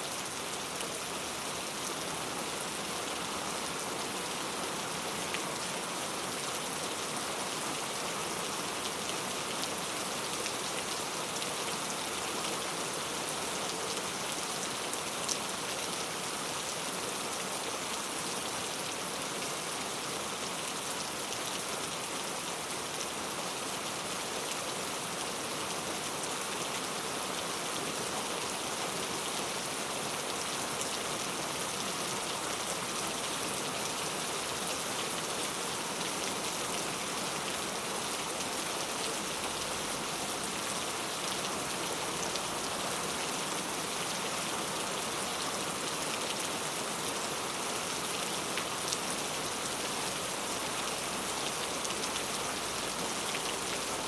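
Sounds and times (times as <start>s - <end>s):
heavy rain on street: 0.0s - 54.0s.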